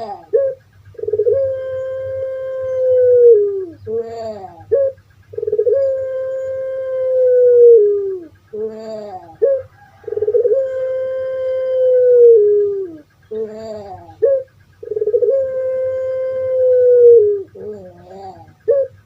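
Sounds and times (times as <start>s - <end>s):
dove calling: 0.0s - 19.0s.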